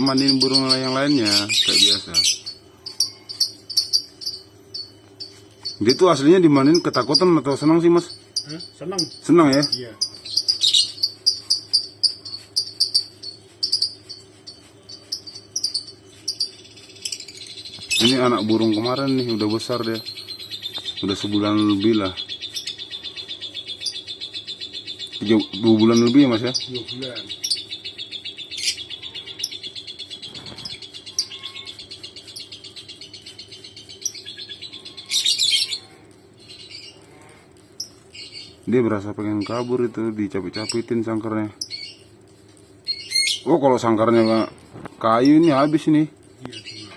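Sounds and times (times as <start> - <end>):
lovebirds chirping shrilly: 0.0 - 46.9.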